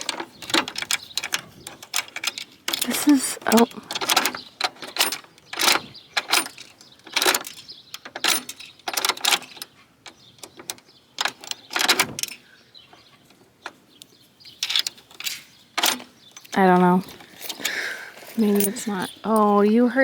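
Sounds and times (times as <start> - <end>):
metallic rattles and clanks: 0.0 - 13.8, 14.5 - 20.0.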